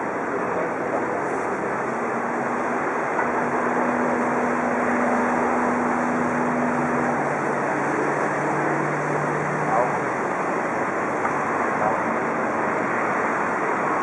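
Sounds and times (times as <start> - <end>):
boat wash: 0.0 - 14.0
motorboat engines droning: 0.0 - 14.0.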